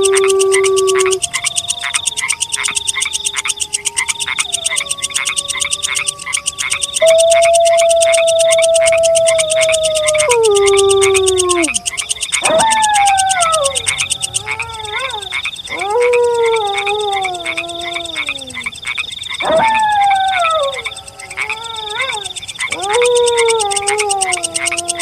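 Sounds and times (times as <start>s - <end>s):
night creatures trilling: 0.0s - 25.0s
wolves howling: 0.0s - 25.0s.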